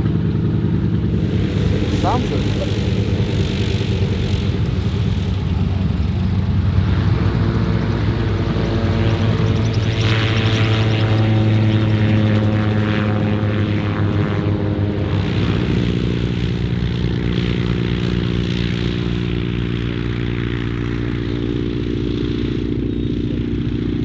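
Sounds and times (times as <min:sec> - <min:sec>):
gyroplane engine and propeller: 0:00.0 - 0:24.0
radial aircraft engine running: 0:00.0 - 0:24.0.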